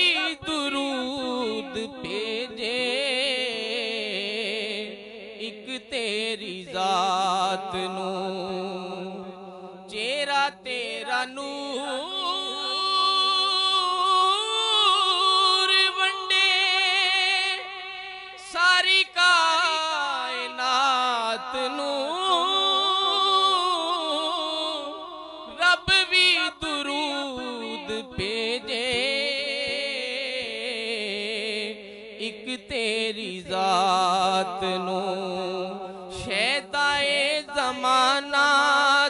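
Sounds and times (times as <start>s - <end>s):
man singing with vibrato: 0.0s - 39.0s.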